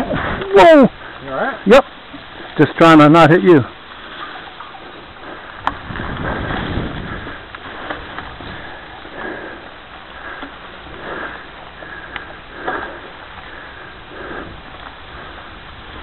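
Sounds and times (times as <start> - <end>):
rider breathing hard: 0.0 - 1.4, 3.9 - 16.0
bike rattling: 0.0 - 16.0
bike tyres crunching leaves: 0.0 - 16.0.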